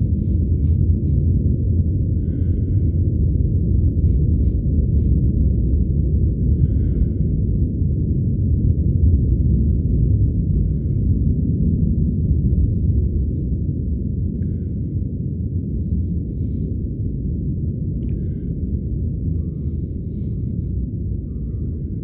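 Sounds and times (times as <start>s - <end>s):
distant rocket engine rumble: 0.0s - 22.0s.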